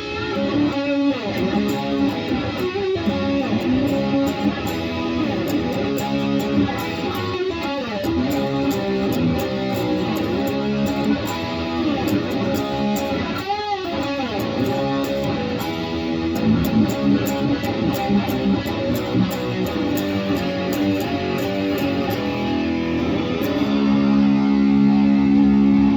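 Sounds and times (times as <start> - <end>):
guitar playing: 0.0 - 25.9.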